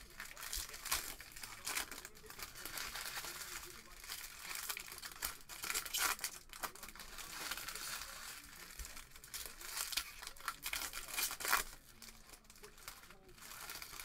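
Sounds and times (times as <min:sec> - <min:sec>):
foil wrappers crinkling and tearing: 0:00.0 - 0:14.0.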